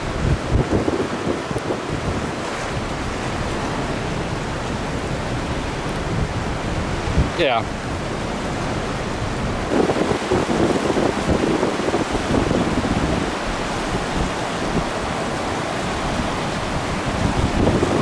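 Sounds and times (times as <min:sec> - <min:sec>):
floodwater rushing: 0:00.0 - 0:18.0
wind gusting against microphone: 0:00.0 - 0:18.0.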